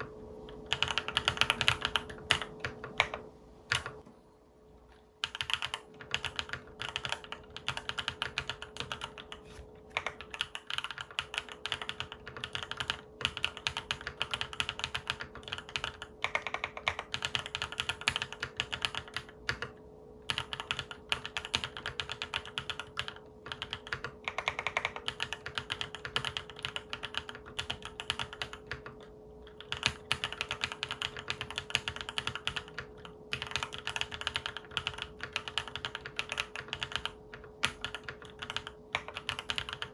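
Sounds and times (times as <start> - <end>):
mechanical keyboard typing: 0.0 - 4.0, 5.2 - 39.9
faint steady hum: 0.0 - 39.9.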